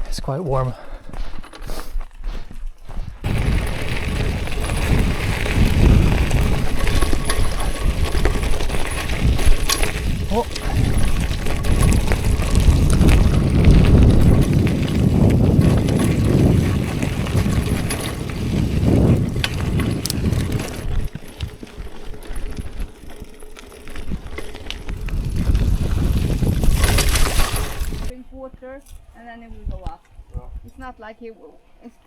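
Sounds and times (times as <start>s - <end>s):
bike tyre rumble and rattling: 1.0s - 28.2s.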